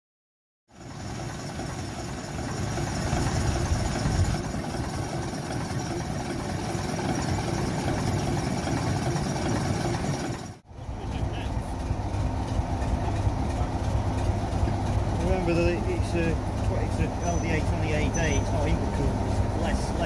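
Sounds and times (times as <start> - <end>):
diesel locomotive engine idling: 0.7 - 20.0.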